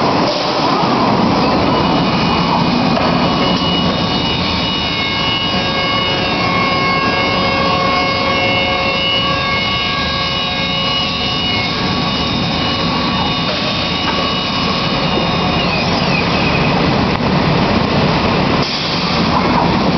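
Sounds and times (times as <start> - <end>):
short gliding whine: 0.0 - 17.2
high machine whining tones: 0.0 - 19.3
machining centre running: 0.0 - 19.9.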